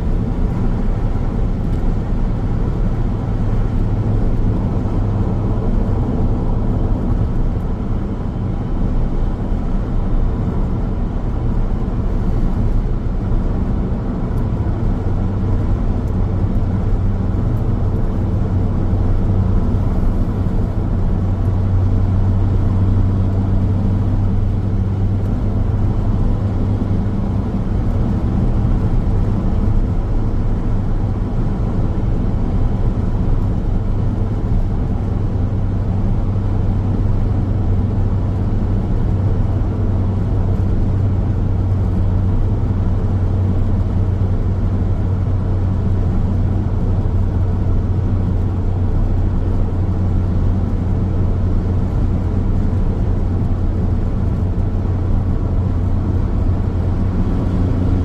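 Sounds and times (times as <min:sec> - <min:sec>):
low engine drone: 0:00.0 - 0:58.0
tyre and road noise: 0:00.0 - 0:58.0.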